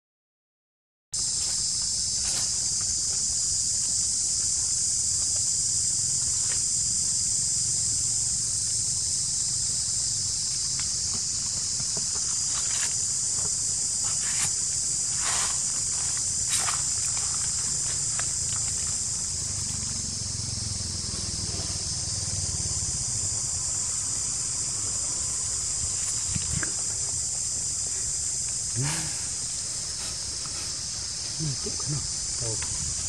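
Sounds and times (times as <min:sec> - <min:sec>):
insect chorus: 0:01.2 - 0:33.0.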